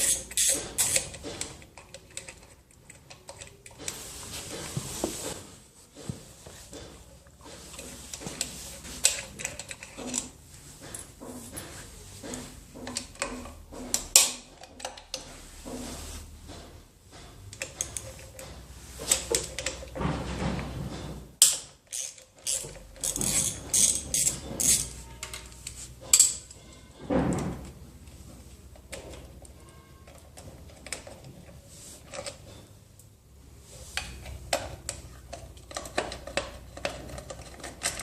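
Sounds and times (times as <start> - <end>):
metal clanks and rattles: 6.0 - 32.8, 34.0 - 38.0.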